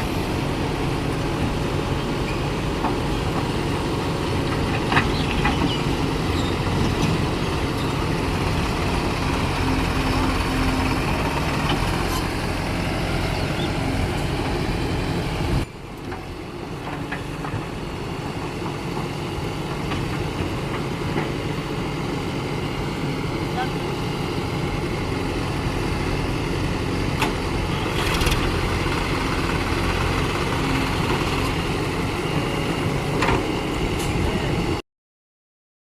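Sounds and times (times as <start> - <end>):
diesel machinery engine running: 0.0 - 34.8.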